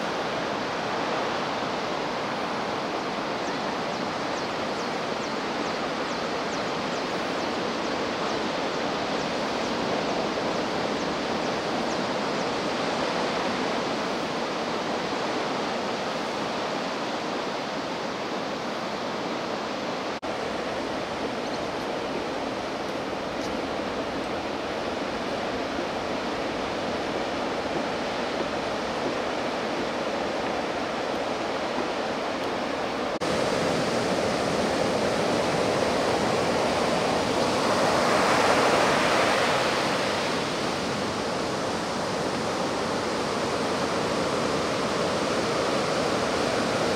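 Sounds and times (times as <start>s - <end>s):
ocean surf on beach: 0.0s - 46.9s.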